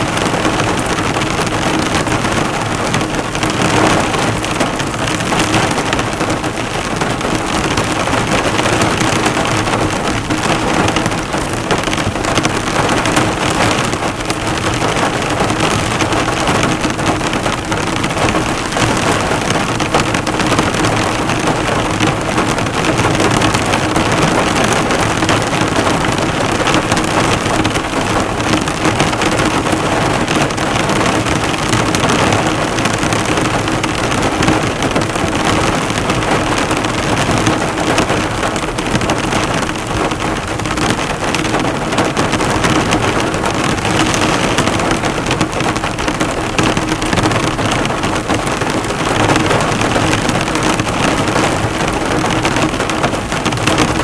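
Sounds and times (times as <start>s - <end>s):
heavy rain on car: 0.0s - 54.0s.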